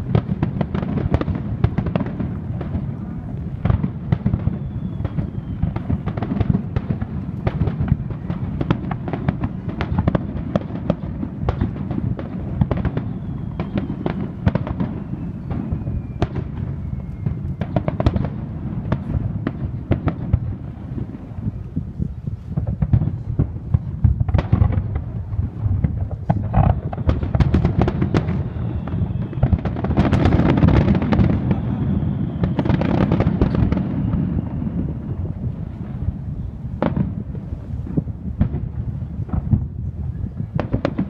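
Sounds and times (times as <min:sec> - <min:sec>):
fireworks booming and cracking: 0:00.0 - 0:41.0.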